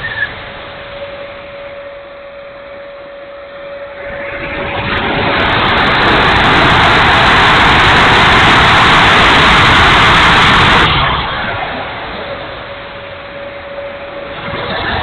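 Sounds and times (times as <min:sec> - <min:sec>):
ducted fan and rushing air: 0:00.0 - 0:15.0
thin steady whine: 0:00.0 - 0:15.0.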